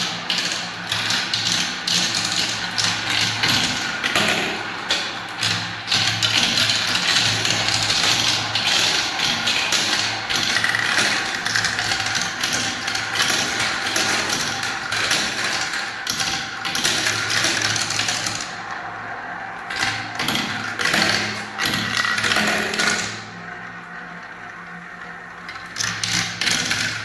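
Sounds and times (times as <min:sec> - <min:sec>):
balls clattering down marble run: 0:00.0 - 0:27.0.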